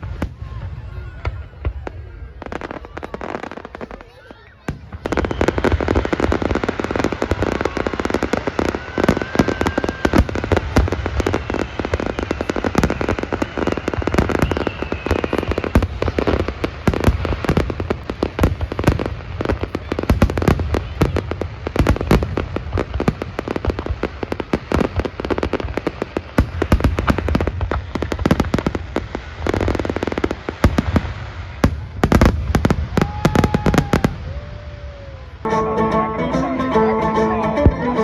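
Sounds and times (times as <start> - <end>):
fireworks bangs and crackles: 0.0 - 35.5.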